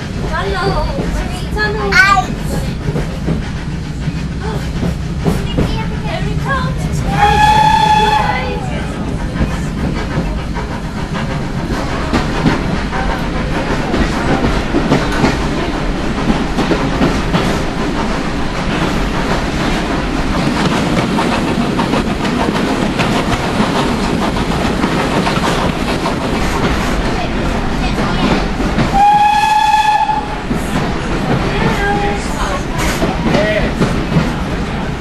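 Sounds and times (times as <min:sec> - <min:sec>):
train carriage rumble: 0:00.0 - 0:35.0.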